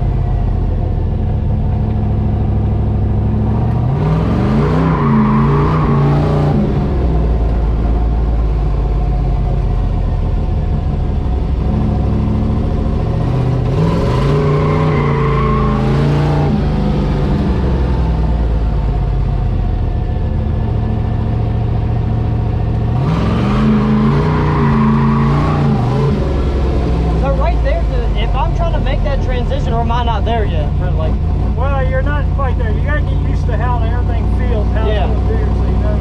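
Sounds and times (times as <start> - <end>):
truck engine revving: 0.0 - 9.1, 9.8 - 36.0.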